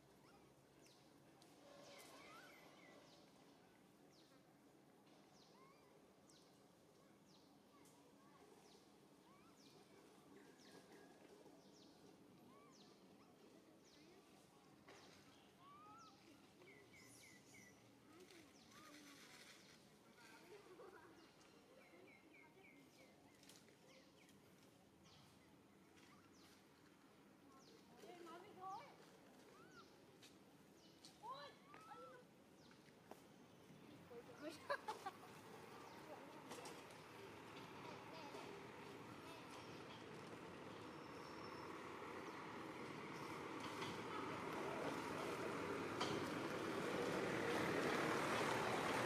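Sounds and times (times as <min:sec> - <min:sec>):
faint forest ambience: 0:00.0 - 0:49.0
small birds chirping: 0:05.1 - 0:49.0.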